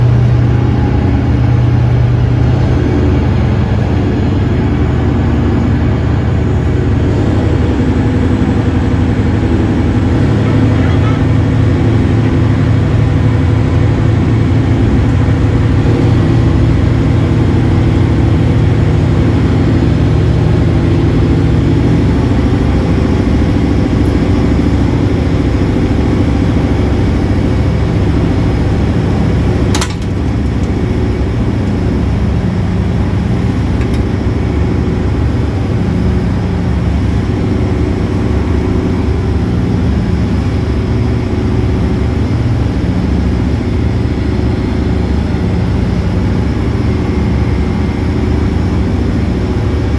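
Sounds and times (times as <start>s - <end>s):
engine droning: 0.0s - 49.9s.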